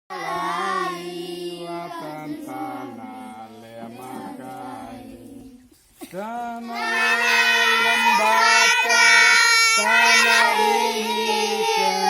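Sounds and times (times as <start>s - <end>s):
voices chanting low held notes: 0.1s - 5.7s, 6.6s - 12.0s.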